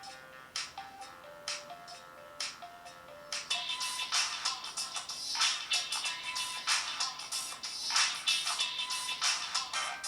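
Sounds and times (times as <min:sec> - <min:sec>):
electronic ringtone tune over a beat: 0:00.0 - 0:10.0.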